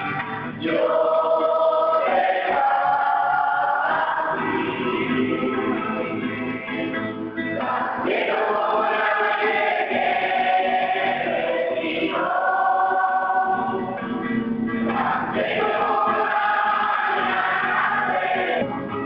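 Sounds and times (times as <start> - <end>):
children and women singing: 0.4 - 7.0, 7.6 - 14.0, 14.8 - 18.7.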